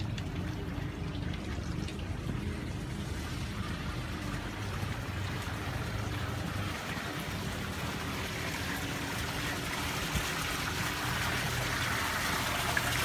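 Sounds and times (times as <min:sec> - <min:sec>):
low steady hum: 0:00.0 - 0:13.0
water running and trickling: 0:00.0 - 0:13.0.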